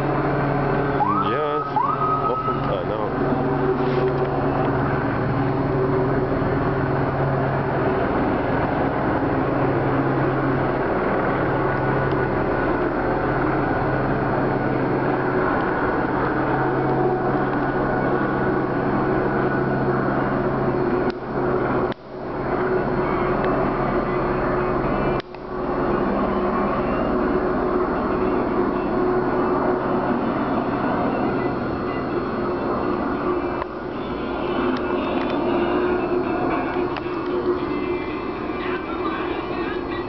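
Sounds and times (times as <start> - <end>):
helicopter rotor drone: 0.0 - 40.0.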